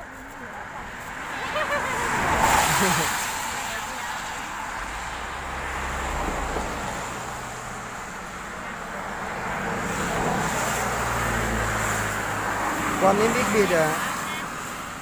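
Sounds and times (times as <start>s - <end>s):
road and air noise hiss: 0.0s - 15.0s
vehicle engine humming: 0.0s - 15.0s.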